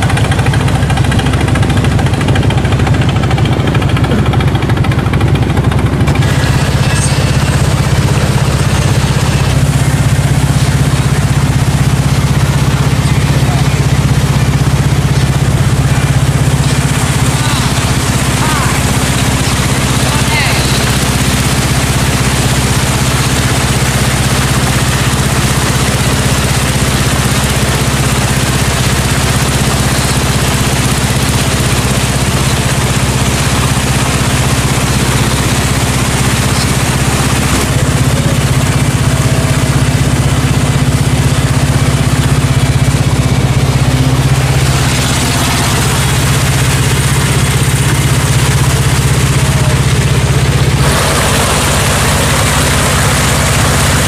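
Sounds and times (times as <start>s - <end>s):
boat engine droning: 0.0s - 54.0s
water and air rushing: 1.0s - 54.0s.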